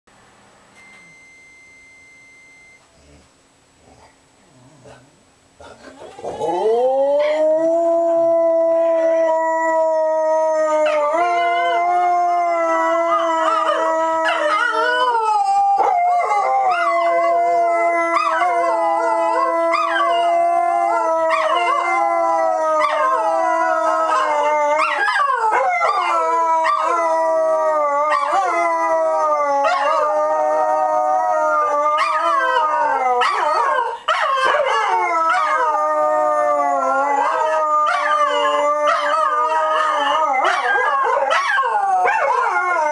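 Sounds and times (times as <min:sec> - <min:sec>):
dogs howling: 0:06.0 - 0:42.9.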